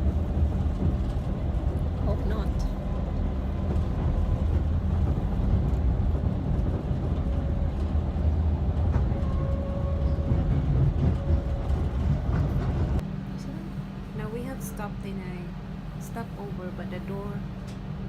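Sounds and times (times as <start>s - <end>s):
train rumble from inside carriage: 0.0s - 18.0s.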